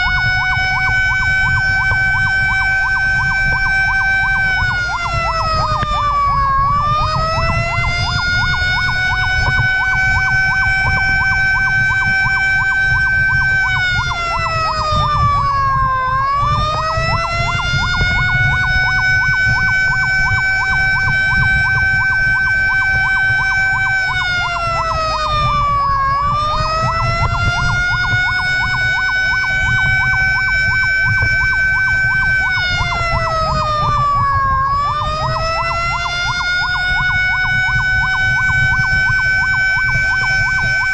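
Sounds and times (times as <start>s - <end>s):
low engine and road rumble: 0.0s - 40.9s
wailing siren: 0.0s - 40.9s
yelping siren: 0.0s - 40.9s.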